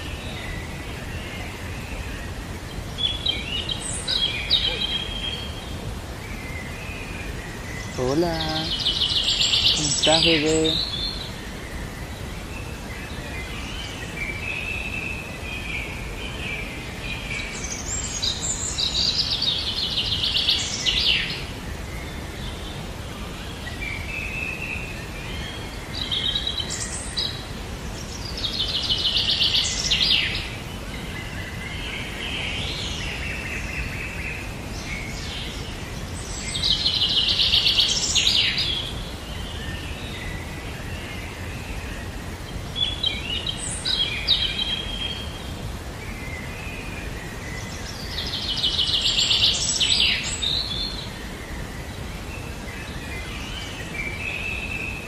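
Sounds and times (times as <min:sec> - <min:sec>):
bird song with fast trill: 0:00.0 - 0:22.8, 0:23.4 - 0:55.0
background hiss: 0:00.0 - 0:55.0.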